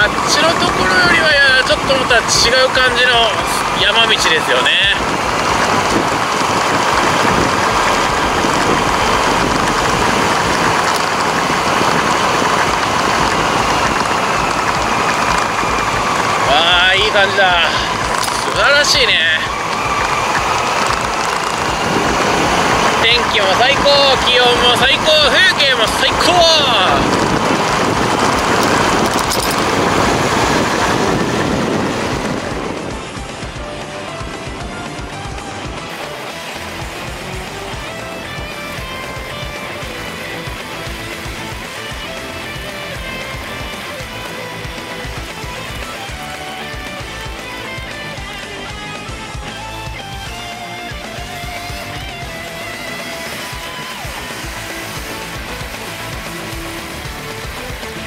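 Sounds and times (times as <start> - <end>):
motorcycle engine running: 0.0 - 58.0
road noise: 0.0 - 58.0
rushing wind: 0.0 - 58.0.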